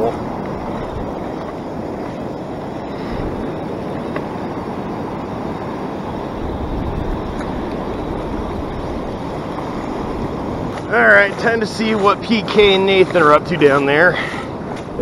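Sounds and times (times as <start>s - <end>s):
ocean surf rushing: 0.0s - 15.0s
wind rumbling on microphone: 0.0s - 15.0s.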